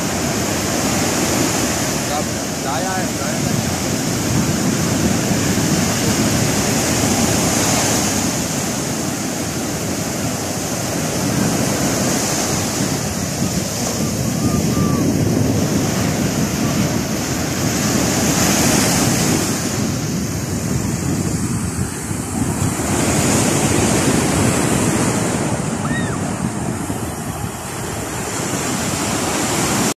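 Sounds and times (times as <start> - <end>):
surf breaking on a beach: 0.0 - 29.9.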